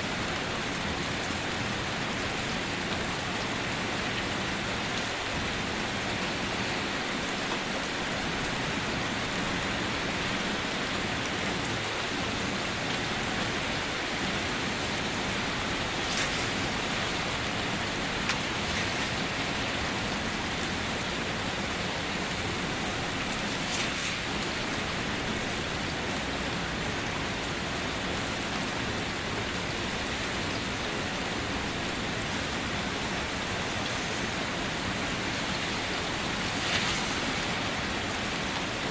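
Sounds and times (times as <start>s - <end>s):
individual raindrops: 0.0s - 38.9s
steady rain hiss: 0.0s - 38.9s.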